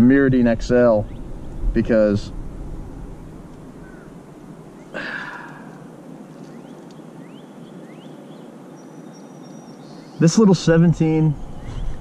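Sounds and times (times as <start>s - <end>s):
faint steady hiss: 0.0s - 12.0s
faint rising bird chirps: 0.9s - 12.0s.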